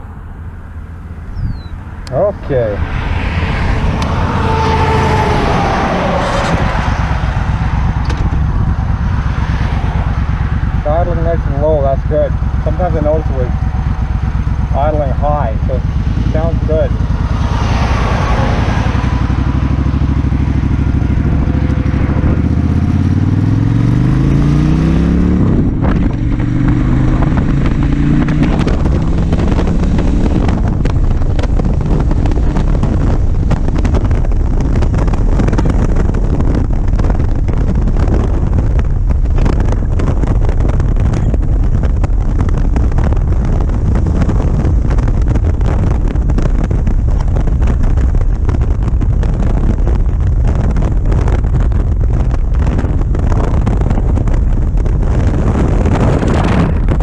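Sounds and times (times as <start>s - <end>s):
wind rushing over microphone: 0.0s - 57.0s
motorcycle engine pulling away: 2.9s - 11.7s, 15.8s - 57.0s.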